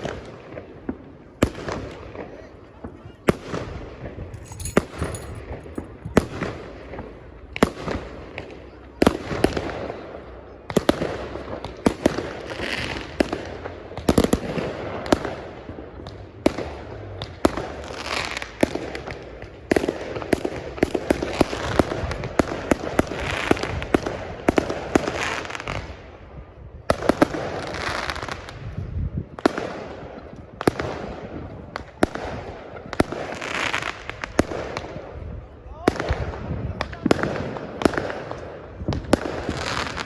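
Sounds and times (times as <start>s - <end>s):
fireworks banging and crackling: 0.0s - 40.0s.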